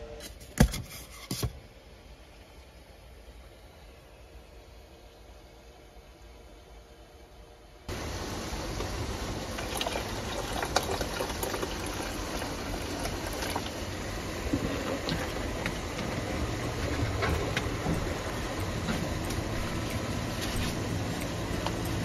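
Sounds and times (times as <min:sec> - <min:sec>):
low hum and hiss: 0:00.0 - 0:22.0.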